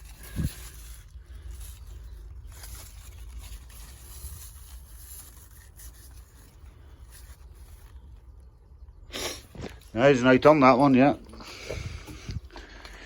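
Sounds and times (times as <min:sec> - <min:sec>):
plants and string rustling: 0:00.0 - 0:13.0.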